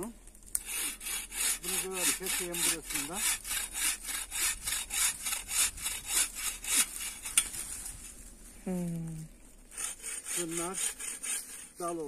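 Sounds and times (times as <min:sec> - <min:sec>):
hand saw cutting branch: 0:00.5 - 0:08.2, 0:09.7 - 0:12.0.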